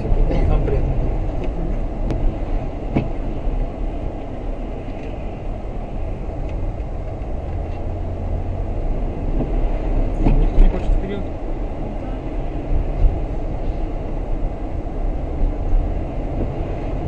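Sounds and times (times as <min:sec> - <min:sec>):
vehicle rumble on wet road: 0:00.0 - 0:17.0.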